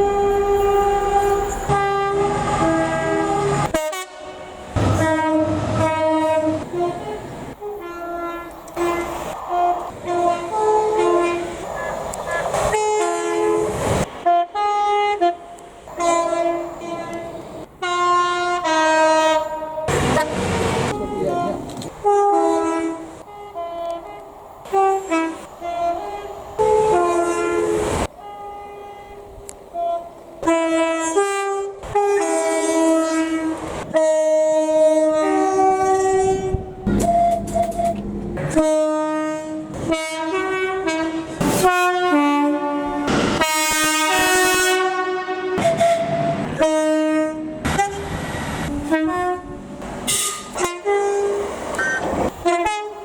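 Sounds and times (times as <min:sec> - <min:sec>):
train horn playing a tune: 0:00.0 - 0:11.6, 0:12.7 - 0:51.5, 0:52.4 - 0:53.0.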